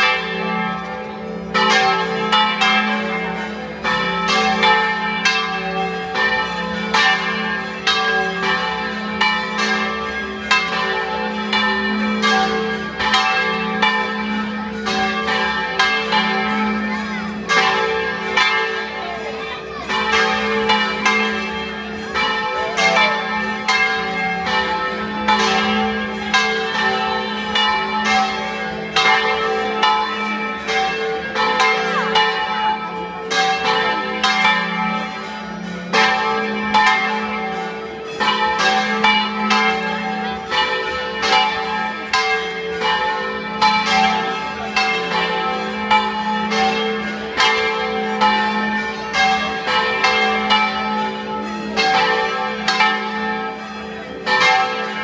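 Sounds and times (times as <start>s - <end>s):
church bells ringing a peal: 0.0s - 55.0s.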